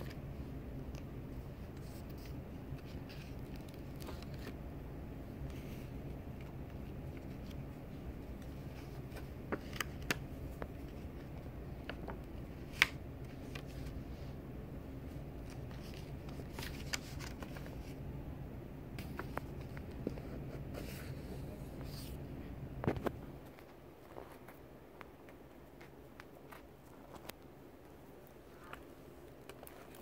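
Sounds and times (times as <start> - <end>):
paper pages rustling: 0.0 - 4.7, 5.4 - 14.3, 15.0 - 18.0, 19.0 - 22.2, 22.8 - 30.0
steady low hum: 0.0 - 30.0.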